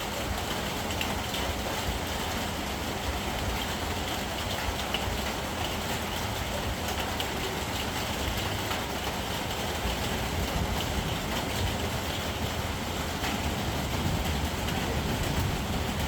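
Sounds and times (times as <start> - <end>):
rain: 0.0 - 16.0.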